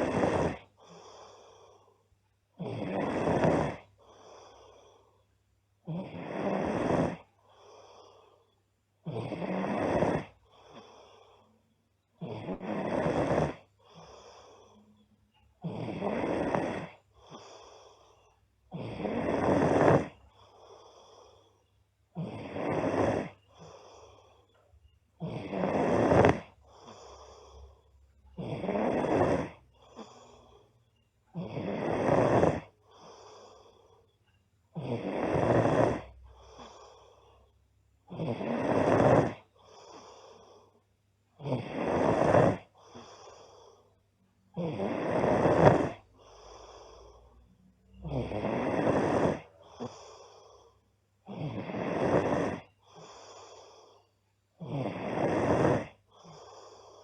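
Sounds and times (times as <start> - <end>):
girl snoring loudly: 0.0 - 1.9, 2.6 - 5.0, 5.8 - 8.4, 9.0 - 11.5, 12.2 - 24.6, 25.2 - 34.0, 34.7 - 37.4, 38.0 - 40.8, 41.4 - 43.9, 44.5 - 54.0, 54.6 - 57.0.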